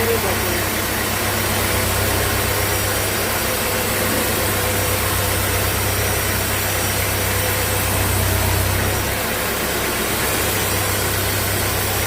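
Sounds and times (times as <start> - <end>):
sawmill machinery hum: 0.0 - 12.0.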